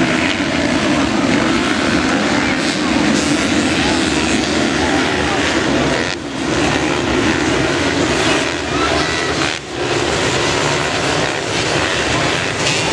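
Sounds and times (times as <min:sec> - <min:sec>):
motocross bikes revving: 0:00.0 - 0:12.9.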